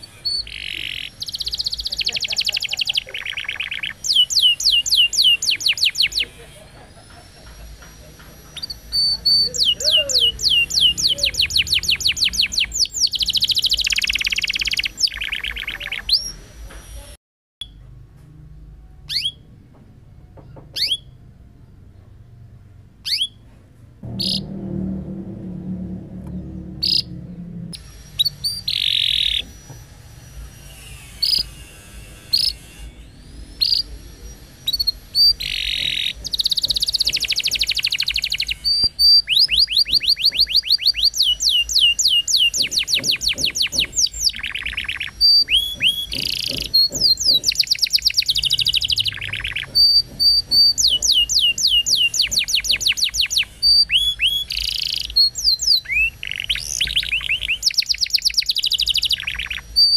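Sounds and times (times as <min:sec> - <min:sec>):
canary singing: 0:00.0 - 0:17.8, 0:18.8 - 0:19.5, 0:20.4 - 0:21.8, 0:23.0 - 0:23.5, 0:24.1 - 0:59.9.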